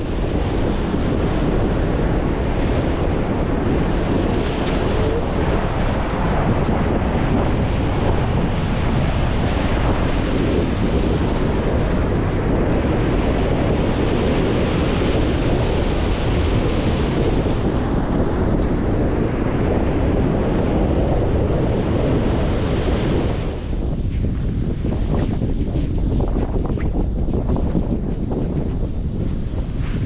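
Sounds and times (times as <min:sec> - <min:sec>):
surf breaking on beach: 0:00.0 - 0:25.3
wind buffeting microphone: 0:00.0 - 0:30.0.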